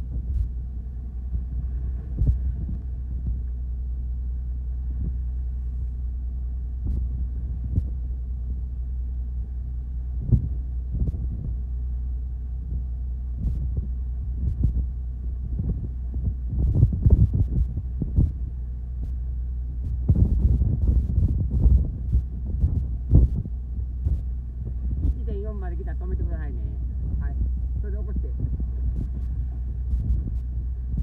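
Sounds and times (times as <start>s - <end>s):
boat engine droning: 0.0s - 31.0s
wind: 0.0s - 31.0s.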